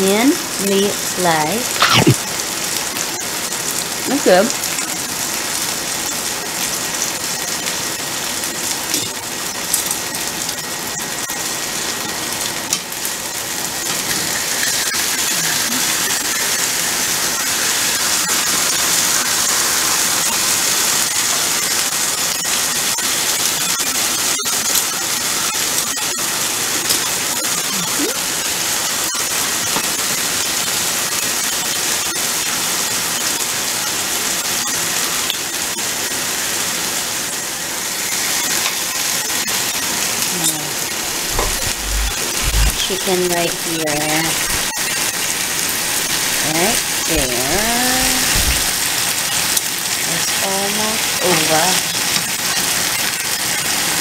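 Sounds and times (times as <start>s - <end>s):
chicken sizzling in a pan: 1.2s - 54.0s.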